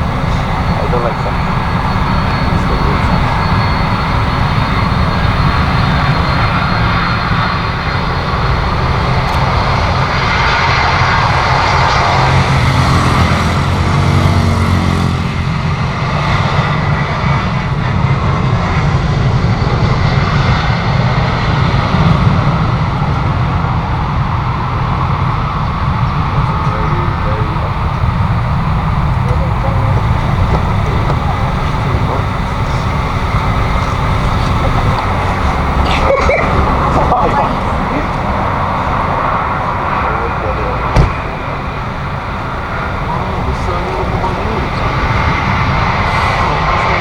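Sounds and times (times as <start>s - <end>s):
jet engine whine: 0.0s - 47.0s
jet engines rumbling: 0.0s - 47.0s.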